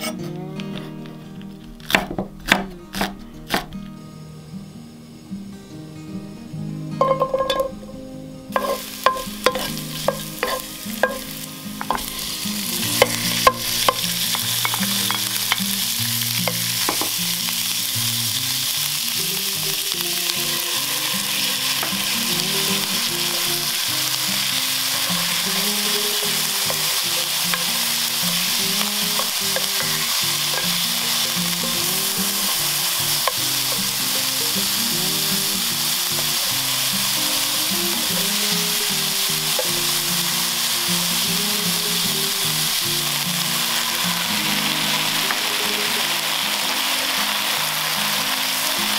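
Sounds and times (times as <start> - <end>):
oil sizzling: 0.0 - 48.9.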